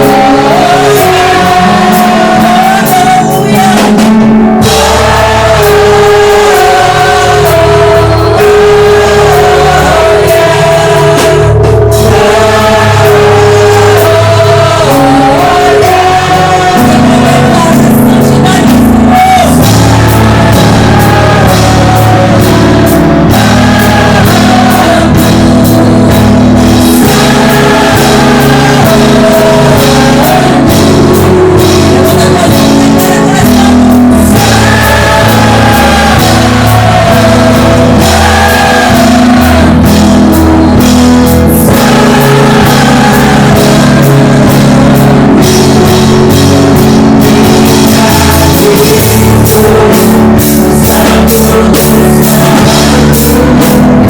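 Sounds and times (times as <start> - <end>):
person singing: 0.0 - 54.0
worship band playing: 0.0 - 54.0.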